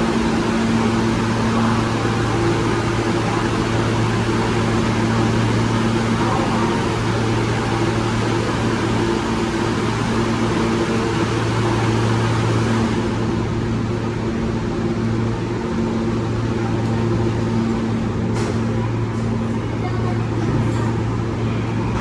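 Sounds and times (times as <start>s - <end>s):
subway train motors droning: 0.0s - 22.0s.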